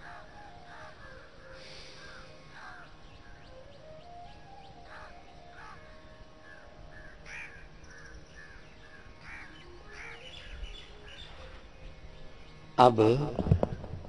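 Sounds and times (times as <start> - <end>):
background hiss: 0.0 - 14.0
birds calling: 0.0 - 14.0.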